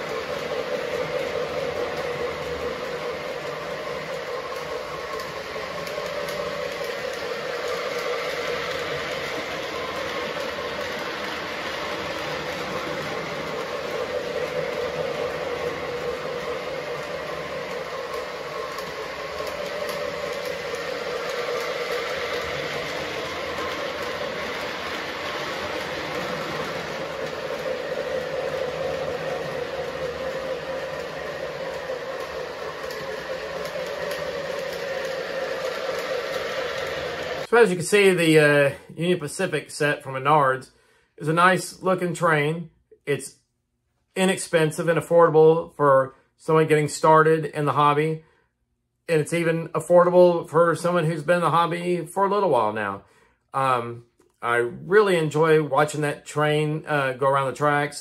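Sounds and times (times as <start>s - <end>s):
toy train running on track: 0.0s - 40.6s, 49.2s - 53.0s, 53.6s - 58.0s.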